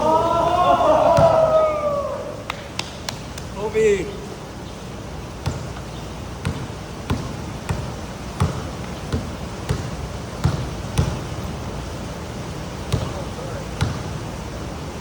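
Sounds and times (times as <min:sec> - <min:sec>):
pouring rain: 0:00.0 - 0:15.0.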